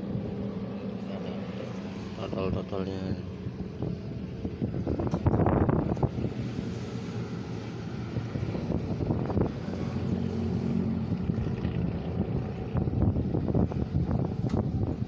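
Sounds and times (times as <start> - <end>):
motor engine running: 0.0 - 15.0.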